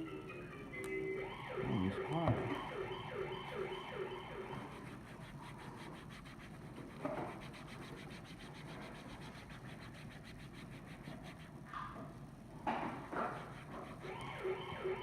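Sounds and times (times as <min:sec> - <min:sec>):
scratching and rubbing on phone: 0:01.8 - 0:15.0.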